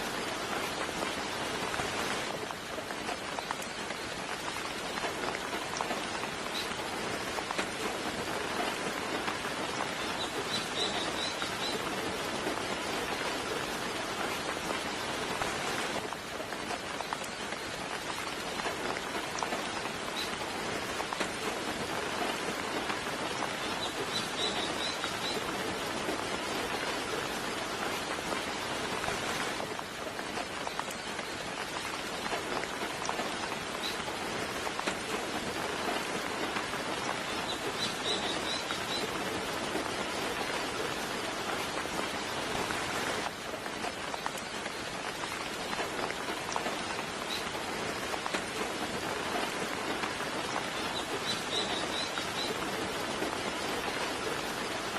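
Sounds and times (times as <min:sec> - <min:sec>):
soft rain falling: 0:00.0 - 0:54.9.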